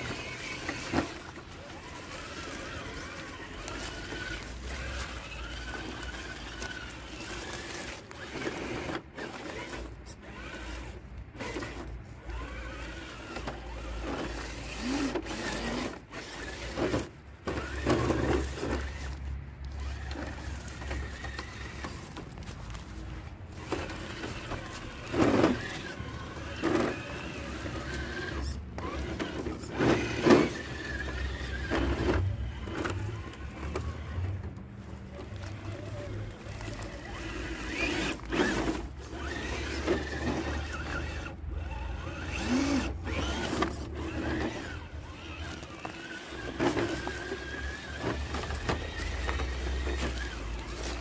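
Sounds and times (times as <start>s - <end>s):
toy car electric motor whining: 0.0s - 51.0s.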